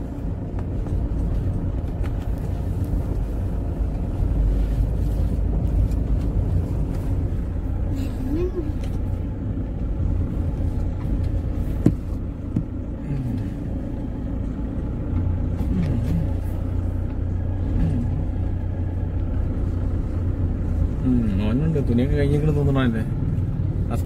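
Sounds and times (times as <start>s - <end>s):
low rumble of engine and tyres: 0.0s - 24.0s.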